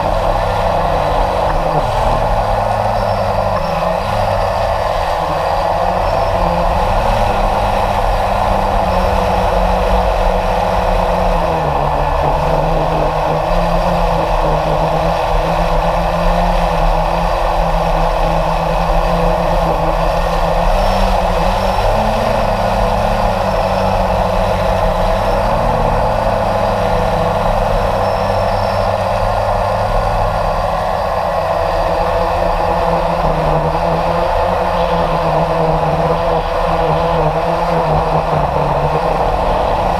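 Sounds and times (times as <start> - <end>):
model aircraft motor droning: 0.0 - 39.9.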